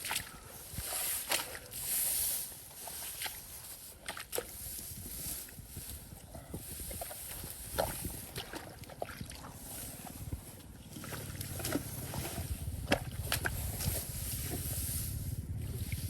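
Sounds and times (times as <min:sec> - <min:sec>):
muddy water sloshing by hand: 0:00.0 - 0:16.0.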